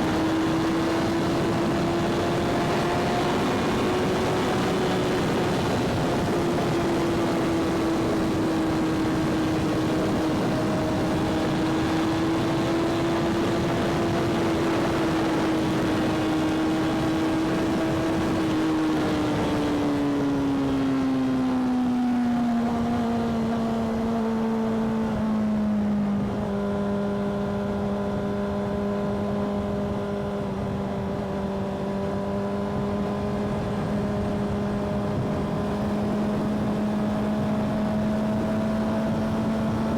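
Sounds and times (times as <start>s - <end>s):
wind rush: 0.0s - 25.2s, 29.0s - 39.9s
motorcycle engine running: 0.0s - 39.9s.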